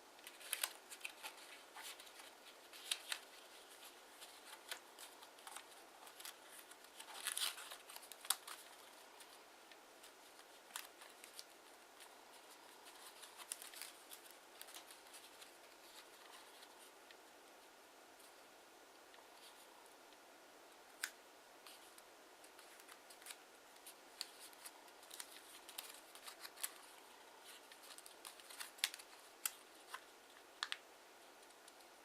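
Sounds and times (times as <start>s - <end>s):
paper being folded and creased: 0.2s - 17.2s, 21.0s - 30.8s.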